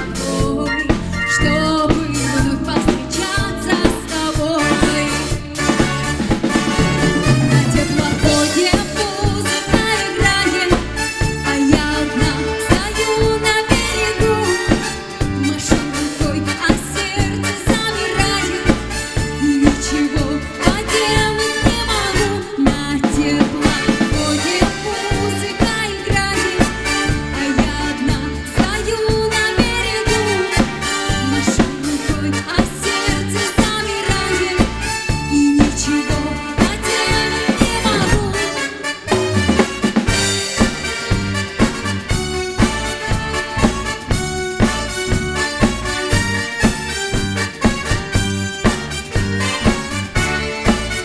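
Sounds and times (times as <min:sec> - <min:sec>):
drum kit and bass beat: 0:00.0 - 0:51.0
live band playing: 0:00.0 - 0:51.0.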